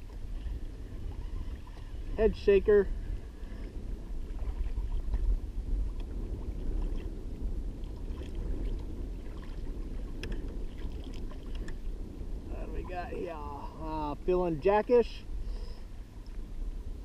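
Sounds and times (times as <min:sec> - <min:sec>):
water lapping against hull: 0:00.0 - 0:14.6
wind rumbling on microphone: 0:00.0 - 0:17.0.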